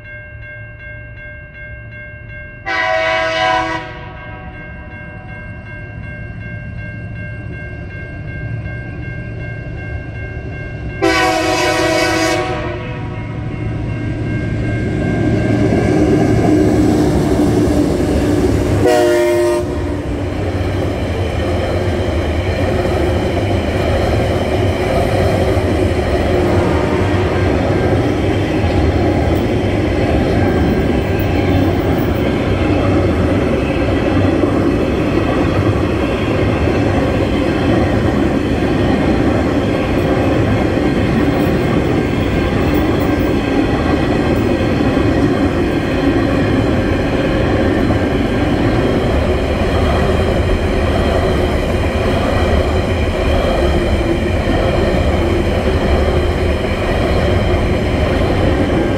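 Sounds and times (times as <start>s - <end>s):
freight train wagons rolling past: 2.7s - 58.9s.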